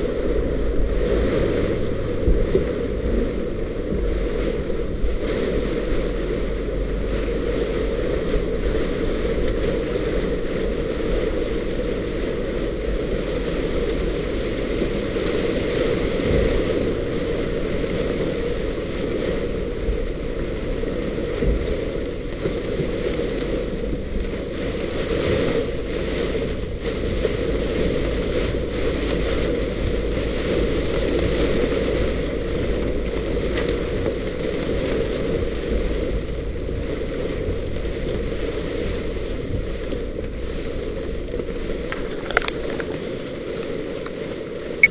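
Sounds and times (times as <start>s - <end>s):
rain drumming on a car: 0.0s - 44.9s.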